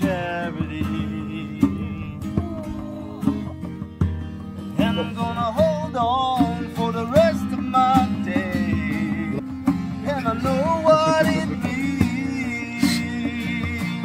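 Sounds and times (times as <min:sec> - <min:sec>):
guitar chords: 0:00.0 - 0:14.0.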